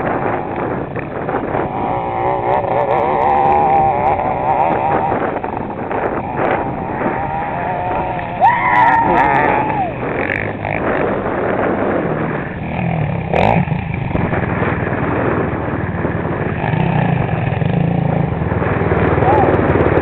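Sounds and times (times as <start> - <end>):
quad engines revving: 0.0 - 20.0.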